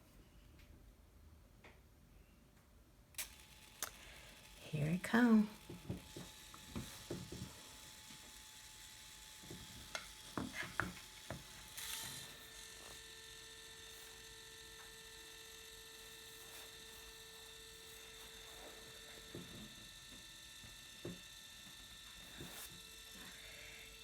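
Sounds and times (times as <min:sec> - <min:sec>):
printer feed motor whirring: 0:03.2 - 0:24.0.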